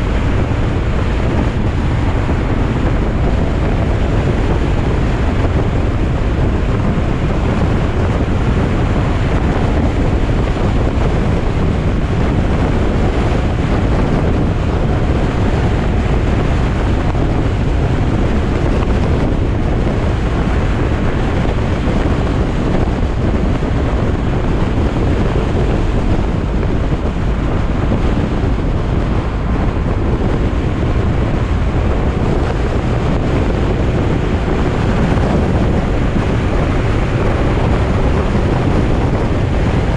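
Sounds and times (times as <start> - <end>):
tyre and road noise: 0.0 - 39.9
wind over microphone: 0.0 - 39.9.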